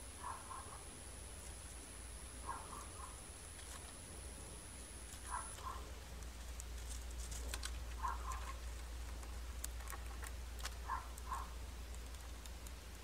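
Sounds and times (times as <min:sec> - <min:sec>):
low electrical hum: 0:00.0 - 0:13.0
mice rustling in dry straw: 0:01.1 - 0:13.0.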